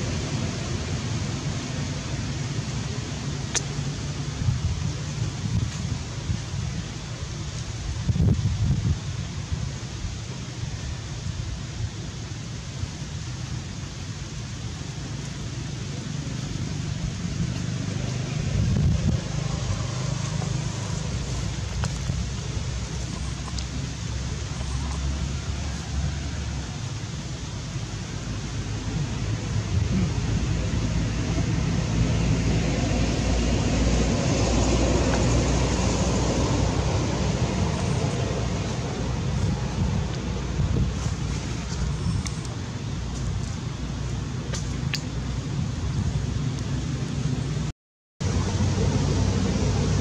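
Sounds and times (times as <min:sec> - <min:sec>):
low fluttering rumble: 0:00.0 - 0:50.0.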